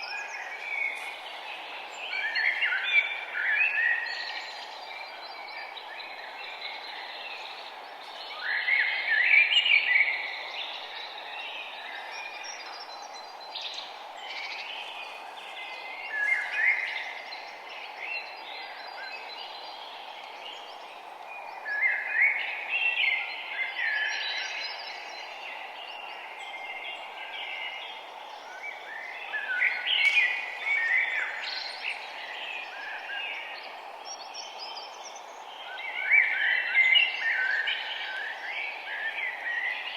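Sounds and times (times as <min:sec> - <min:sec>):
songbird chirping: 0:00.0 - 0:39.9
steady background hiss: 0:00.0 - 0:39.9.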